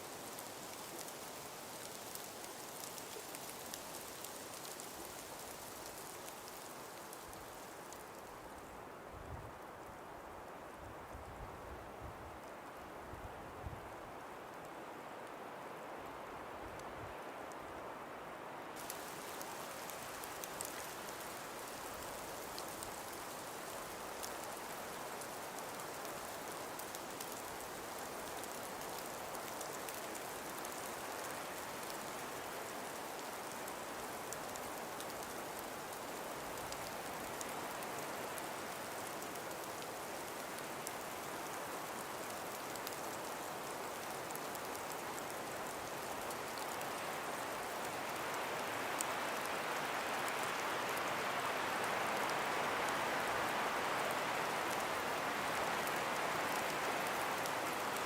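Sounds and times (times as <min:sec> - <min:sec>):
faint ticks: 0:00.0 - 0:08.8, 0:18.8 - 0:58.0
breeze through trees: 0:00.0 - 0:58.0.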